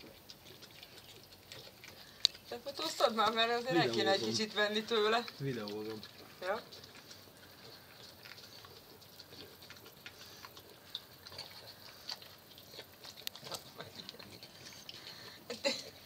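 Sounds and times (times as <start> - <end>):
dog licking ice cream: 0.0 - 16.0.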